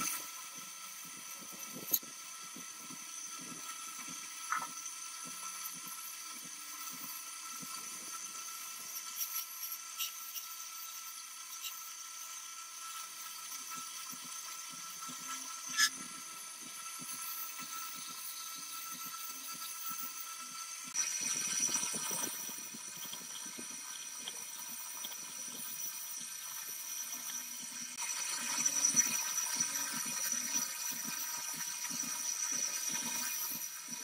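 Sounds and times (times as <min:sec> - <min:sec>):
wire wheel brush whining: 0:00.0 - 0:34.0.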